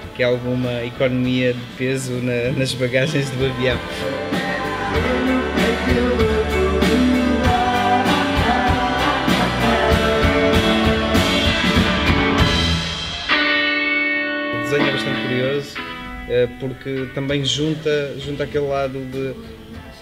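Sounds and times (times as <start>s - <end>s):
background music with steady beat: 0.0s - 20.0s.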